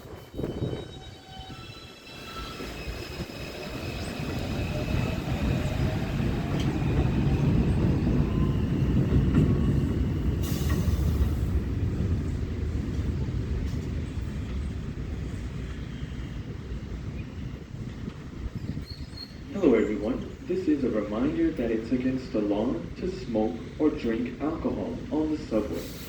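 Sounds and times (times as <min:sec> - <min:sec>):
subway train wheel and rail rumble: 0:00.0 - 0:26.0.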